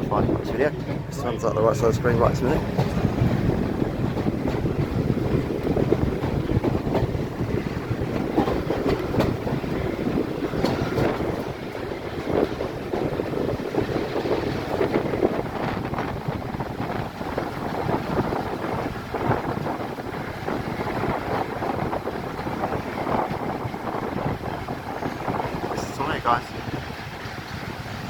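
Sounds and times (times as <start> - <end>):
train running rumble: 0.0 - 28.0
wind buffeting microphone: 0.0 - 28.0.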